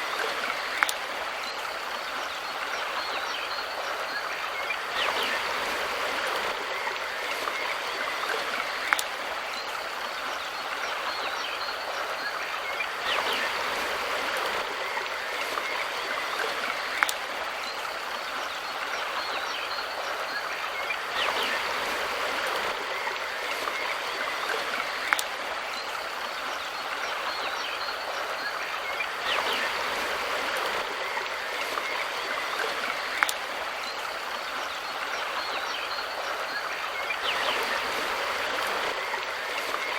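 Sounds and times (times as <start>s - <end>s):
river water rushing over stones: 0.0s - 39.9s.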